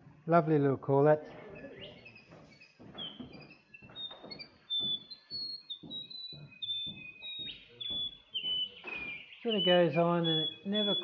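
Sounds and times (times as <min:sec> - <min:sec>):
recorded birdsong from small speaker: 0:00.0 - 0:11.0.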